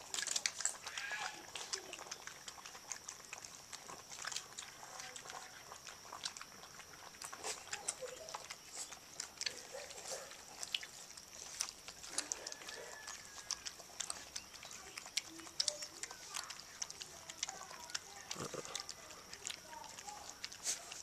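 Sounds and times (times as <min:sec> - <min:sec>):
puppies grunting softly: 0:00.0 - 0:21.0
puppies lapping milk: 0:00.0 - 0:21.0.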